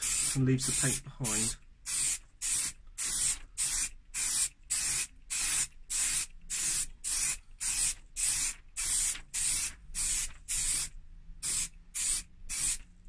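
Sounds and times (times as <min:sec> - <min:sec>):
aerosol spray can hissing: 0:00.0 - 0:12.9.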